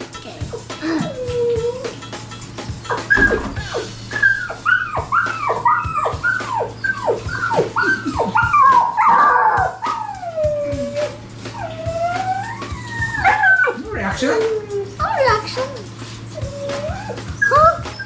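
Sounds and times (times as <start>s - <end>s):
dog yipping and whimpering: 0.4s - 2.0s, 2.8s - 18.0s
dog whining: 0.4s - 18.0s.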